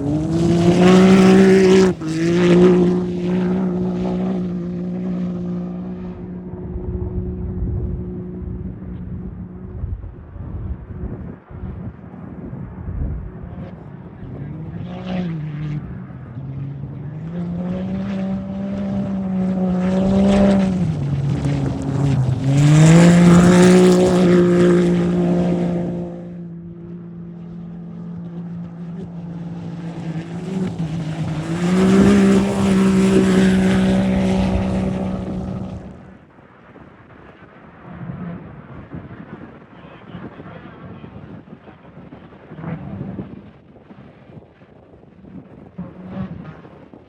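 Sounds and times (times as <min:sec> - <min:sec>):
race engines running hard: 0:00.0 - 0:36.3, 0:37.6 - 0:44.4.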